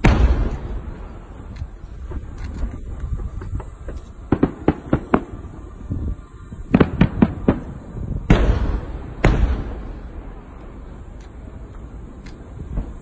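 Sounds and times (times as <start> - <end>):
fireworks booms with rumble: 0.0 - 13.0
fireworks cracking: 0.0 - 13.0.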